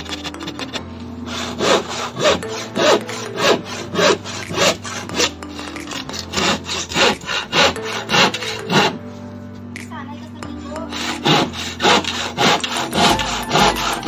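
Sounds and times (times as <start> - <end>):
hand saw cutting plywood: 0.0 - 9.1, 10.7 - 14.0.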